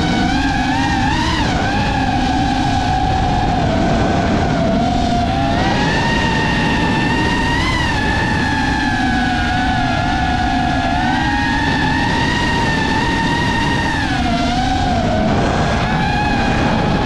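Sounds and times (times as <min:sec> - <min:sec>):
quadcopter motors whining: 0:00.0 - 0:17.0
wind and prop-wash rumble: 0:00.0 - 0:17.0.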